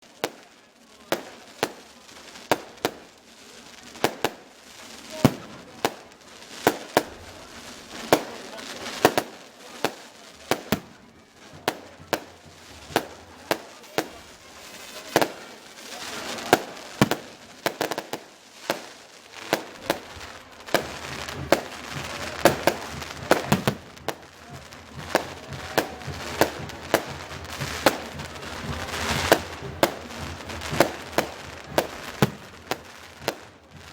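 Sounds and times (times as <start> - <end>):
fireworks crackling: 0.0 - 33.9
fireworks bangs: 0.1 - 33.9.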